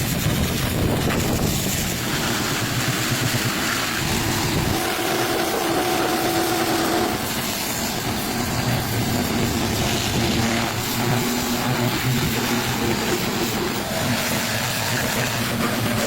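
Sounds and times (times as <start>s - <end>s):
machine humming: 2.0s - 16.0s.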